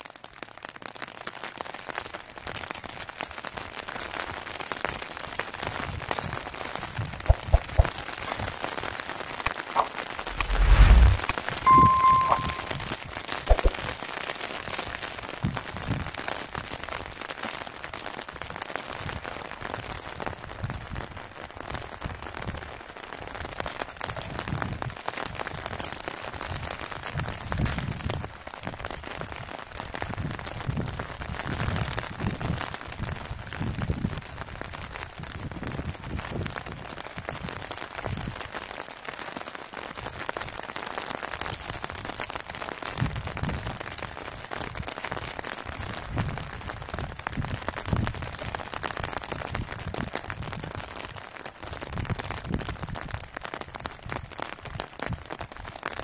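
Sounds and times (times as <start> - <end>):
rain pattering: 0.0 - 11.6, 12.6 - 56.0.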